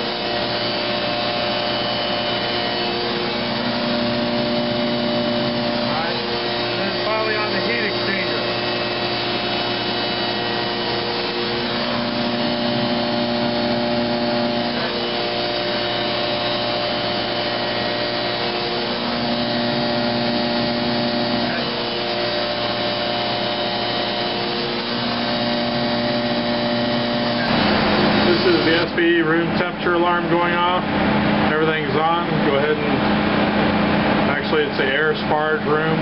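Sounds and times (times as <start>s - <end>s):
machine drone: 0.0s - 36.0s
steady whining tones: 0.0s - 36.0s.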